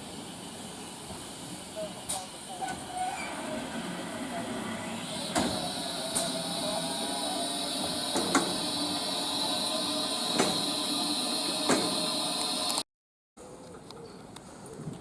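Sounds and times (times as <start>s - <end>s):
train rumble and hiss: 0.0s - 12.8s.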